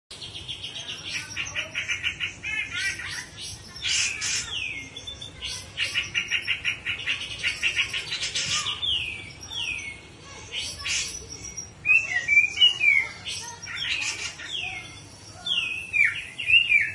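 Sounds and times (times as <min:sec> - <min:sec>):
bird rapid repeated chirps: 0:00.1 - 0:16.9.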